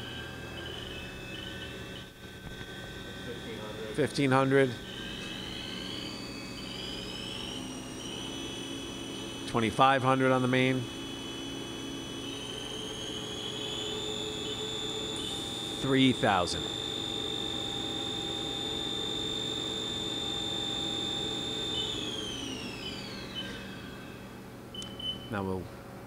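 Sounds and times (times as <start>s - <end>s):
lathe spindle whine: 0.0s - 24.4s
low machine hum: 0.0s - 26.0s.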